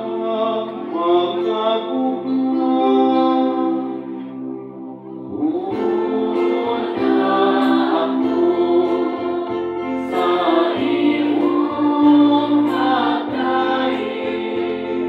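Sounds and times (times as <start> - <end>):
group of voices singing: 0.0 - 4.4, 5.0 - 15.0
instrumental accompaniment: 0.0 - 15.0.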